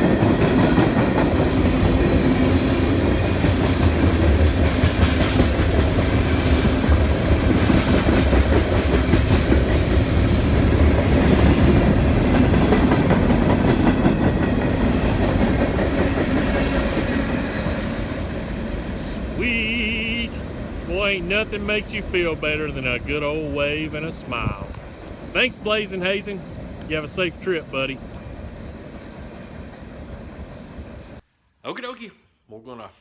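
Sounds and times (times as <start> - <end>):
freight train rumble: 0.0 - 31.2
train wheels clacking: 0.0 - 31.2.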